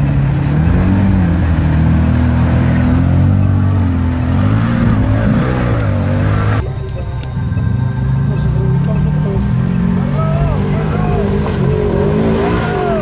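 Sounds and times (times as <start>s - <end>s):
engine revving under load: 0.0s - 6.7s, 8.2s - 13.0s.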